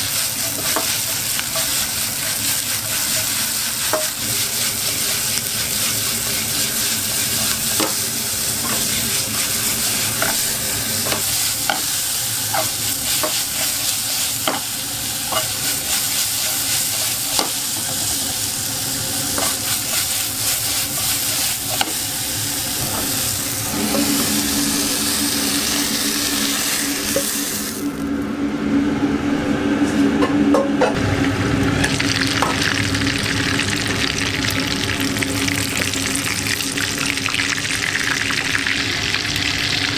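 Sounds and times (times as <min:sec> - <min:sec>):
food sizzling in oil: 0:00.0 - 0:28.1, 0:31.8 - 0:39.9
steady low hum: 0:00.0 - 0:37.0.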